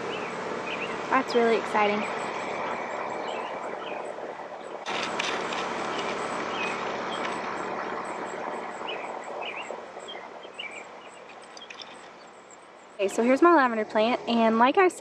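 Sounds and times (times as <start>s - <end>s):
small birds chirping: 0.0s - 5.0s, 5.8s - 14.5s
steady rushing noise: 0.0s - 14.7s.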